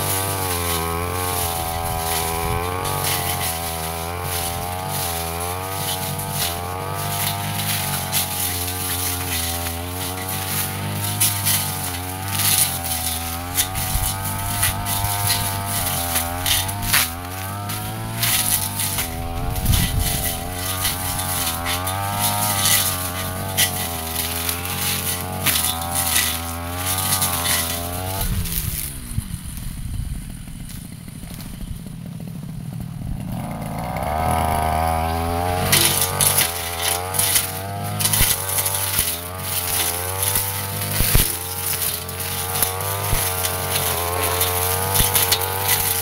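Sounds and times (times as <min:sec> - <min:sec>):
blade striking stems: 0:00.0 - 0:29.0, 0:33.2 - 0:46.0
brush cutter engine revving: 0:00.0 - 0:46.0.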